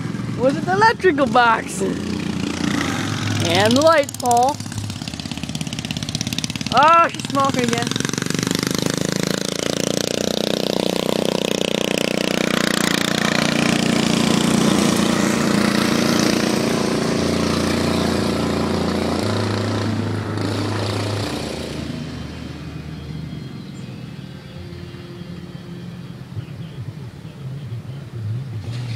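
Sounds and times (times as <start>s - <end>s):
small lawnmower engine running: 0.0s - 26.8s.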